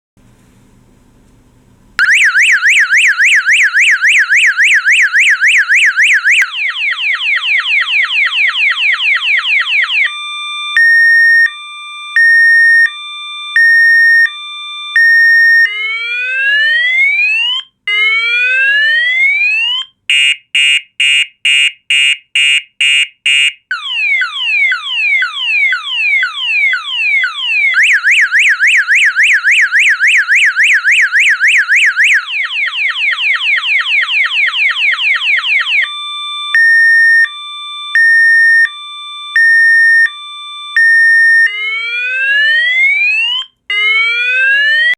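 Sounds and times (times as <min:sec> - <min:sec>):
car alarm siren cycling tones: 0:02.0 - 0:44.9.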